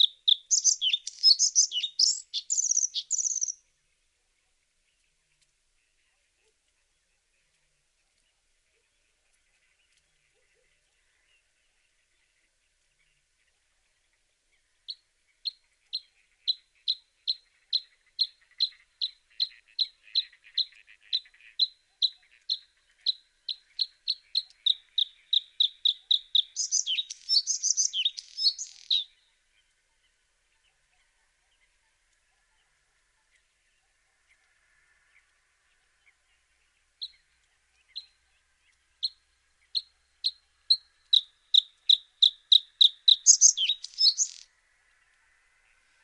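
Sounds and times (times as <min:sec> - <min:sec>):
bird singing: 0:00.0 - 0:46.0.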